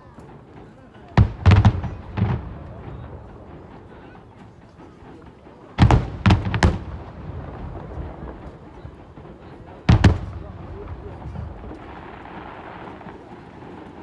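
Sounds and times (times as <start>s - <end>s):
fireworks bursting: 0.1s - 14.0s.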